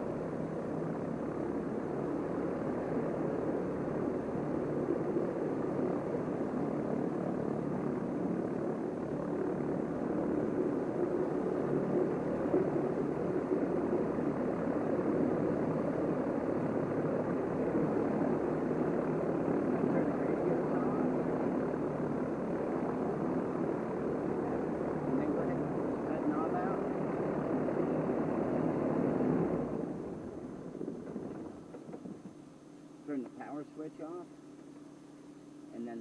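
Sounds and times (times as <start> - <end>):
airplane engine drone: 0.0 - 36.0.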